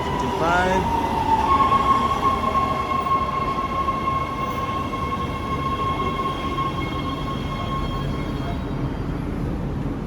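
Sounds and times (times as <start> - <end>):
high-pitched train whine: 0.0 - 10.0
subway train rumbling: 0.0 - 10.0.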